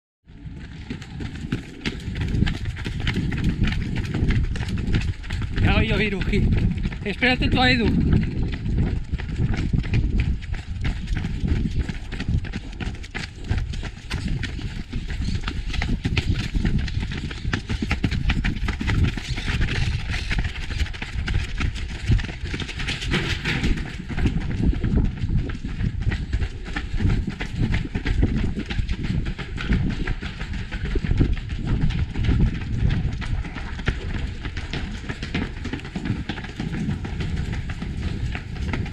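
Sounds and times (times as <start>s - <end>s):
runners' footsteps on pavement: 0.3s - 38.9s.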